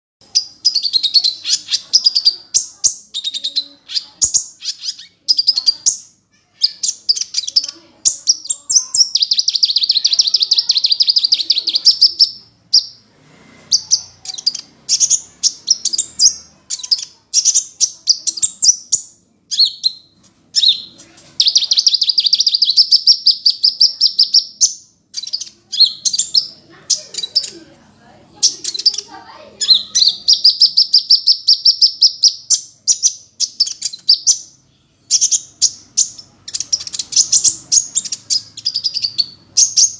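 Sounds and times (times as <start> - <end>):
sunbird chirping and trilling: 0.2 - 39.9.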